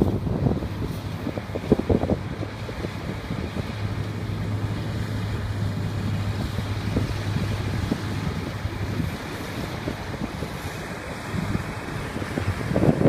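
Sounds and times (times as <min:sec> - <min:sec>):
combine harvester engine running: 0:00.0 - 0:13.0
wind buffeting microphone: 0:00.0 - 0:13.0.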